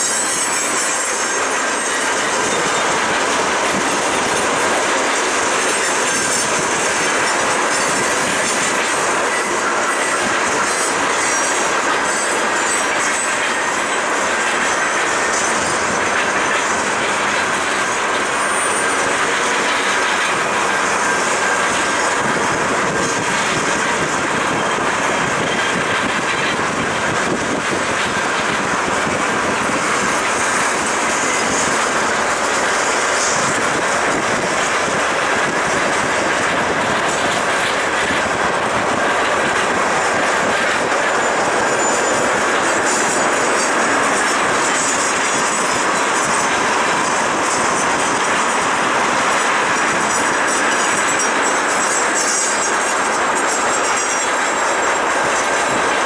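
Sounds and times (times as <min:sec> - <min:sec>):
train wheels rushing on rails: 0:00.0 - 0:56.0.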